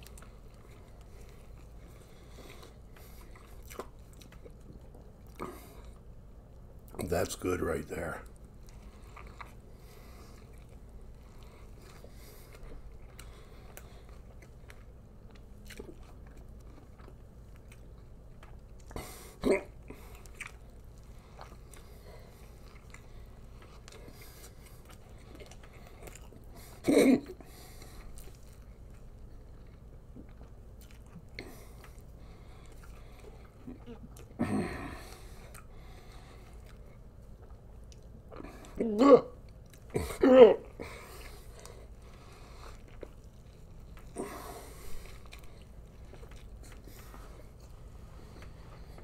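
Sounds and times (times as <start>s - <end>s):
man chewing burger: 0.0s - 49.0s.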